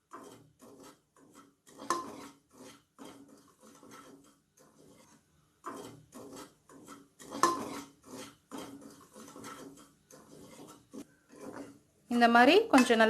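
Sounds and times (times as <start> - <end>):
spoon scraping bottom of pot: 0.0 - 11.9, 12.6 - 13.0.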